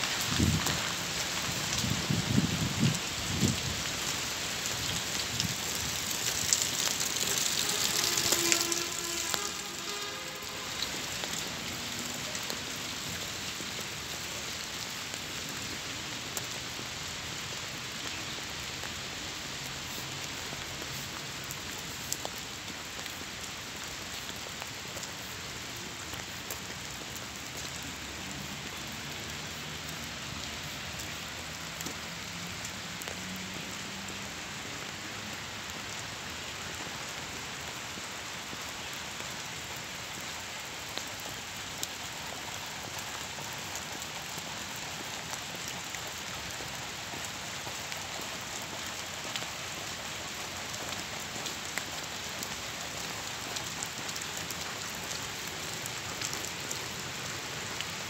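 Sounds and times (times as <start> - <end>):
rain on pavement and puddles: 0.0 - 58.0.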